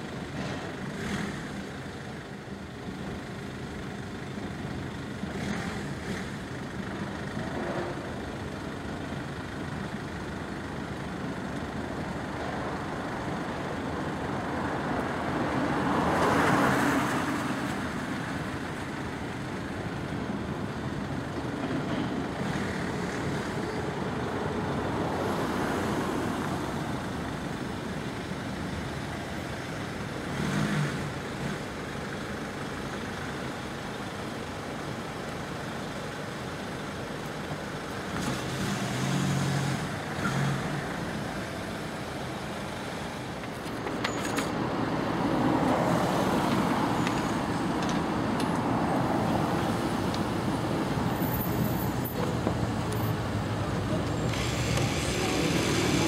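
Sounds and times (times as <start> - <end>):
road vehicle engines: 0.0 - 56.0.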